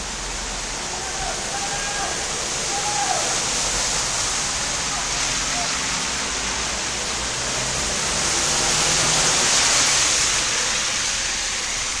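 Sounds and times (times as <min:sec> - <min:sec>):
vehicle driving through floodwater: 0:00.0 - 0:12.0.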